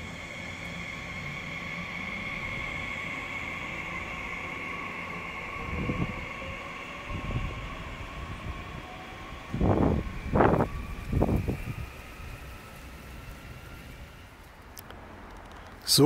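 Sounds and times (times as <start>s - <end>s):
electric train running: 0.0s - 14.8s.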